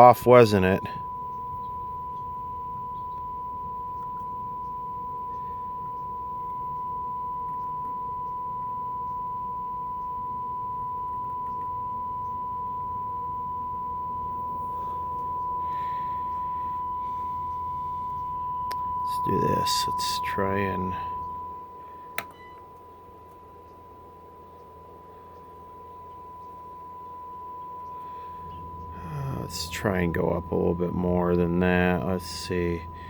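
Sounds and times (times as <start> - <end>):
low hum: 0.0 - 33.0
steady test tone from speaker: 0.0 - 33.0.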